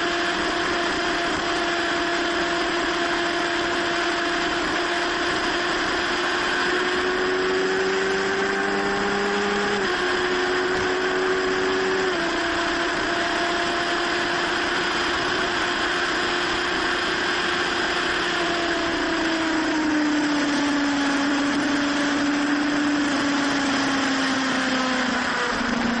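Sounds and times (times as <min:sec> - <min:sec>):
car engine running: 0:00.0 - 0:26.0
road noise: 0:00.0 - 0:26.0.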